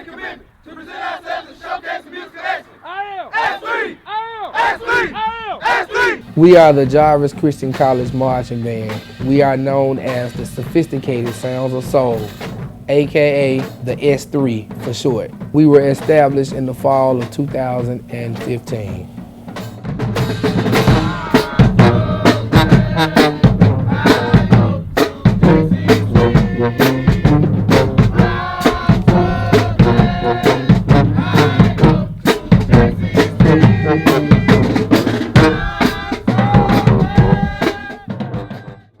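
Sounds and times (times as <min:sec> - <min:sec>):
marching band brass: 0:00.0 - 0:39.0
drumline sharp drum hits: 0:04.6 - 0:39.0
heavy bass drum: 0:06.2 - 0:38.9.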